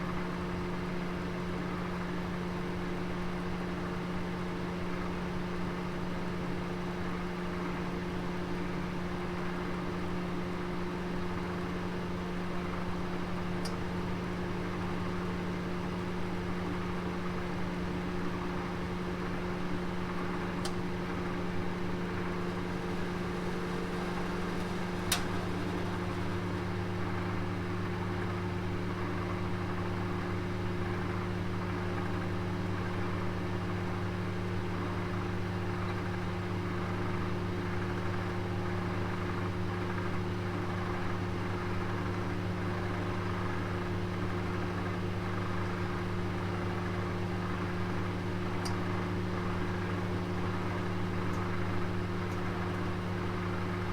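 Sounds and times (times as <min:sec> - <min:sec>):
oven humming: 0:08.1 - 0:53.9.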